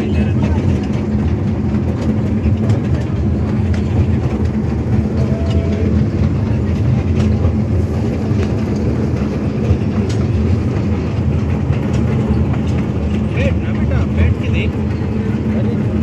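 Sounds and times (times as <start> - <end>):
train low rumble: 0.0 - 16.0
wheels clicking on track: 0.0 - 16.0.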